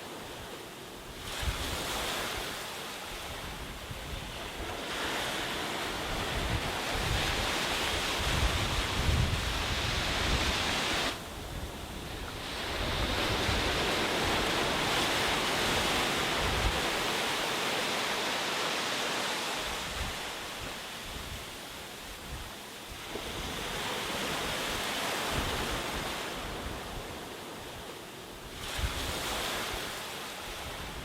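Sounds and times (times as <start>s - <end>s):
sea surf breaking on a beach: 0.0s - 31.0s
wind buffeting the microphone: 1.0s - 17.7s, 19.6s - 31.0s.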